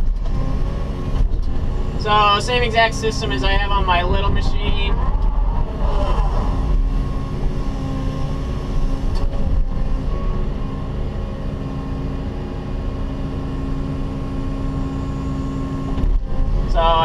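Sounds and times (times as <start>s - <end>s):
excavator engine rumble: 0.0s - 17.0s
hydraulic pump whine: 0.0s - 17.0s.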